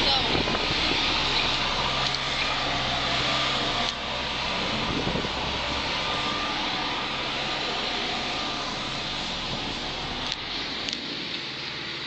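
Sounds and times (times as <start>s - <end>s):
construction machinery engine running: 0.0s - 12.0s.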